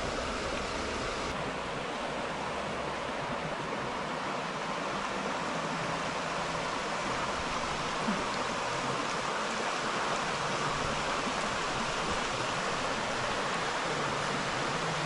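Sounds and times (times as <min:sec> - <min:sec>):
river flowing over stones: 0:00.0 - 0:15.0.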